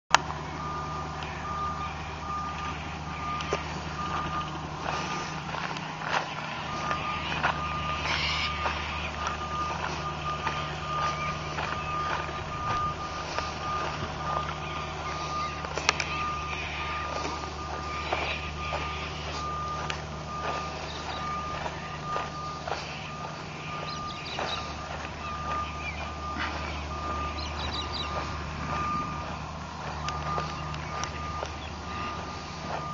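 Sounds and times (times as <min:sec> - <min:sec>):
low engine hum: 0:00.1 - 0:32.9
reversing beeper: 0:00.1 - 0:32.9.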